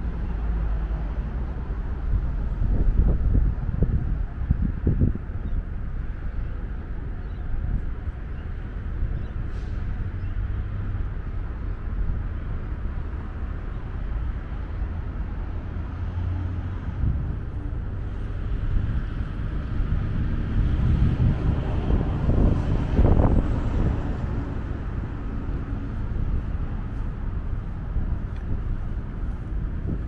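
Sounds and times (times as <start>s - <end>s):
road traffic noise: 0.0s - 30.0s
wind buffeting microphone: 1.3s - 30.0s.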